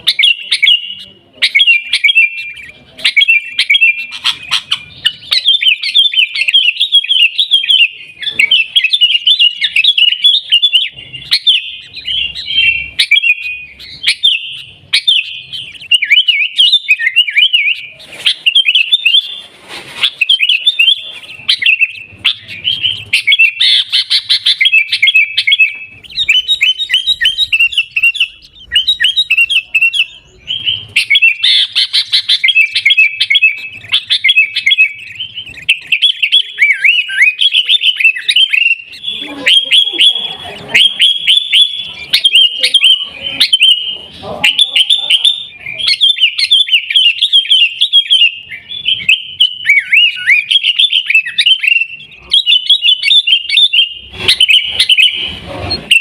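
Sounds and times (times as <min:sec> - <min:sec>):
bulbul chattering chirps: 0:00.0 - 0:56.0.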